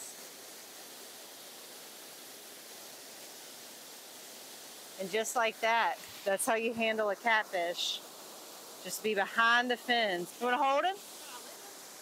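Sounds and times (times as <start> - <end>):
water rushing at spillway: 0.0 - 12.0.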